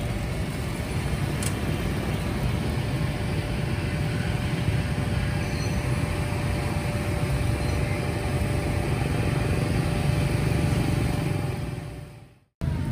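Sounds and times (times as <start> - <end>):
motorbike traffic passing: 0.0 - 12.9.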